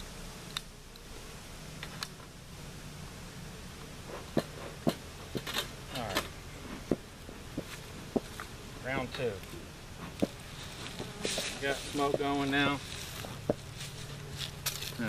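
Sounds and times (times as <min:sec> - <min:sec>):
bee smoker clicks and knocks: 0:00.4 - 0:02.4, 0:03.8 - 0:15.0.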